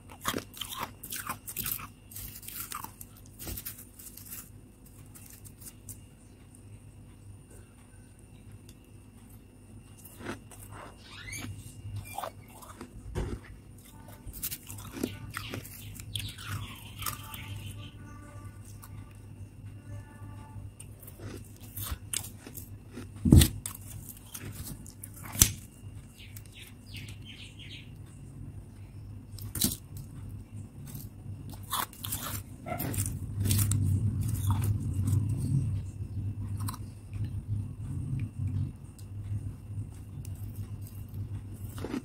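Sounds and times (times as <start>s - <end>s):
frost crunching and chewing: 0.0s - 6.7s, 8.4s - 19.2s, 20.7s - 27.2s, 29.4s - 35.5s, 36.5s - 37.4s, 38.2s - 42.0s.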